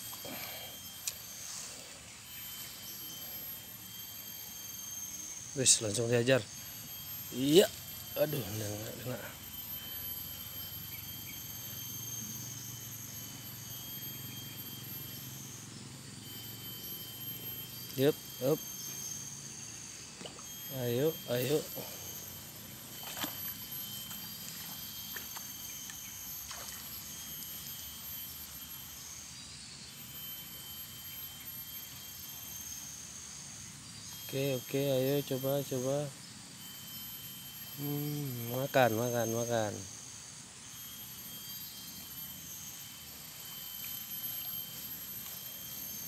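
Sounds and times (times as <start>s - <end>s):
insects trilling: 0.0s - 46.0s
low steady hum: 0.0s - 46.0s.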